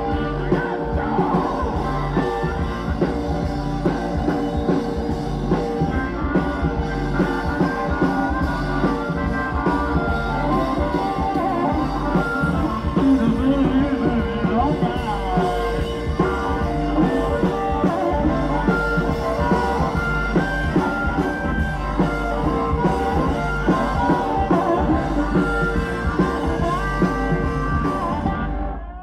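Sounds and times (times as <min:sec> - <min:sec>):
rock and roll band playing: 0:00.0 - 0:29.0.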